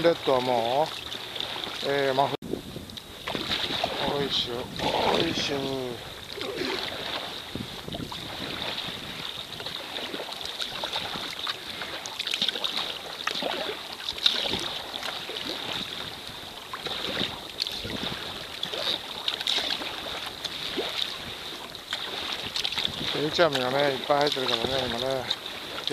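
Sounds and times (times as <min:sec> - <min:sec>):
paddle splashes: 0:00.0 - 0:25.9
water lapping against hull: 0:00.0 - 0:25.9.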